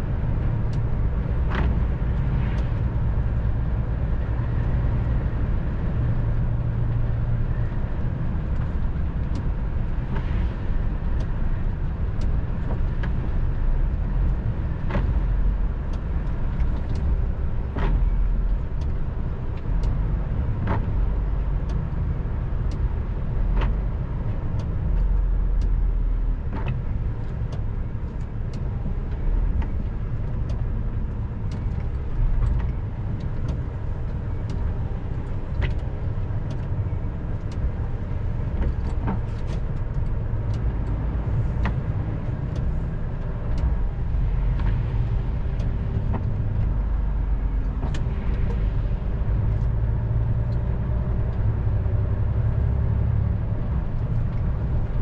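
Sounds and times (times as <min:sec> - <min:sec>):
heavy vehicle engine drone: 0:00.0 - 0:55.0
tyres on wet road: 0:00.0 - 0:55.0.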